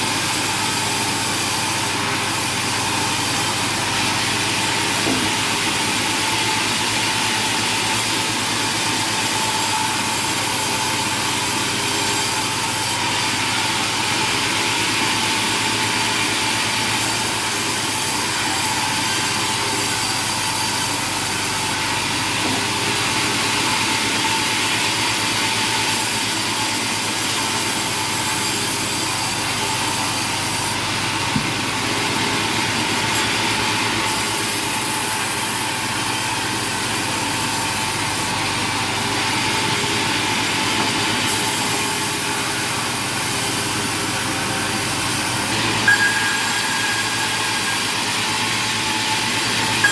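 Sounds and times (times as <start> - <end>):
sawmill motor hum with whine: 0.0 - 49.9.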